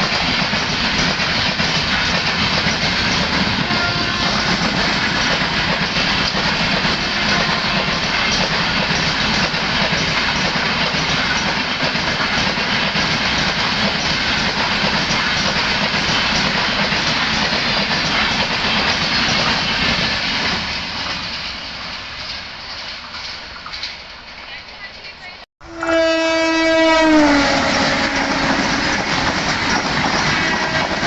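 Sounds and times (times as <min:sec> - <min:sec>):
train wheels rumbling on rails: 0:00.0 - 0:25.4, 0:26.2 - 0:31.0.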